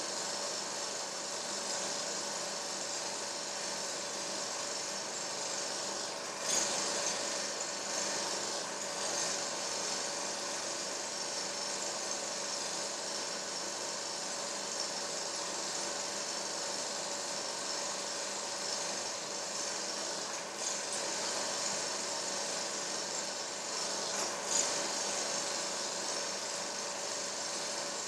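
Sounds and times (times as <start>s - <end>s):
film projector whirring: 0.0s - 28.0s.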